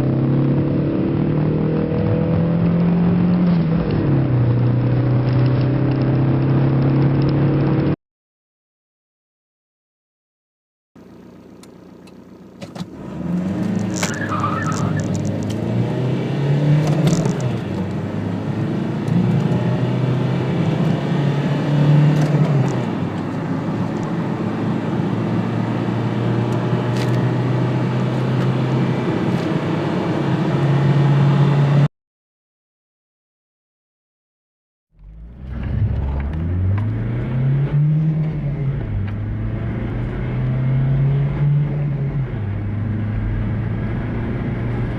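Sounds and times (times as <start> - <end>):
car engine accelerating through gears: 0.0 - 8.0, 11.5 - 31.9, 35.0 - 44.9.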